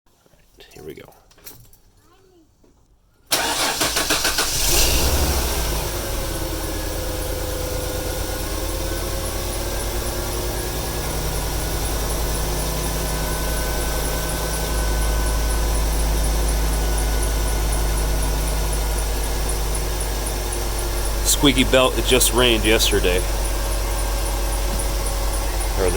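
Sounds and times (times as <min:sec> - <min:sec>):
car engine idling: 0:03.3 - 0:25.9.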